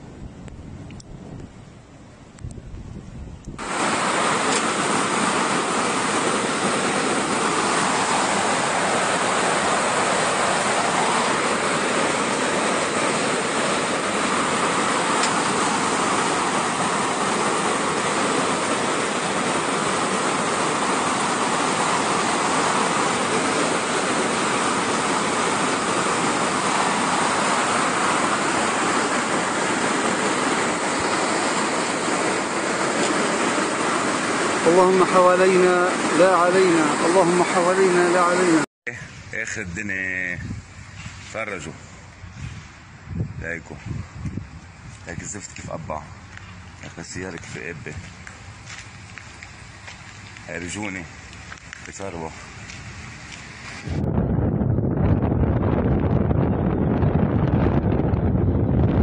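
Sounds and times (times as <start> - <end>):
floodwater rushing down street: 3.6 - 43.0, 44.0 - 54.0.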